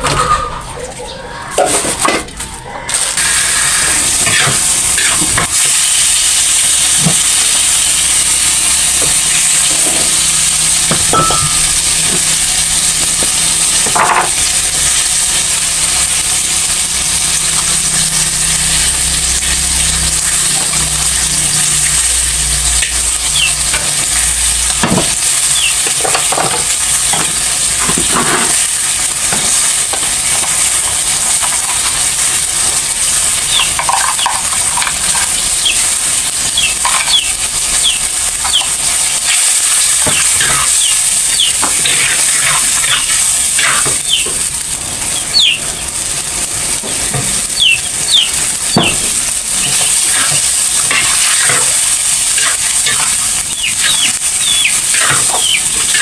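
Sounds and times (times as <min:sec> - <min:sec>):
food sizzling in hot oil: 0:00.0 - 0:56.0.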